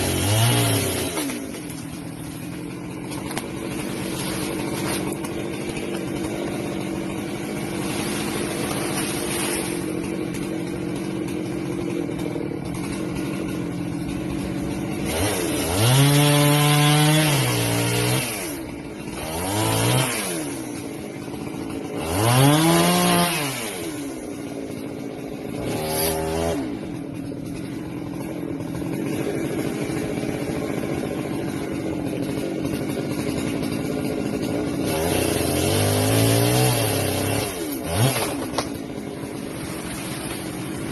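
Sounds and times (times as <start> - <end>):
chainsaw running and revving: 0.0 - 40.9.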